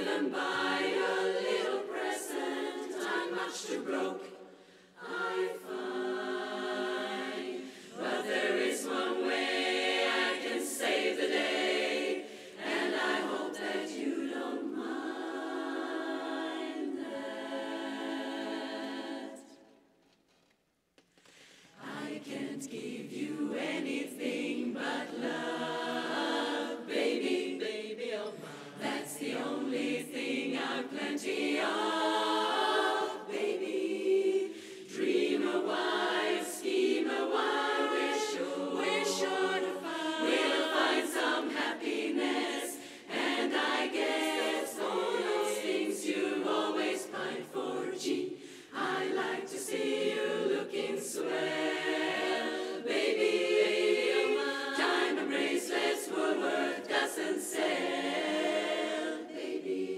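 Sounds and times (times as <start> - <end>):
women's chorus singing a cappella: 0.0 - 20.0, 21.4 - 59.9.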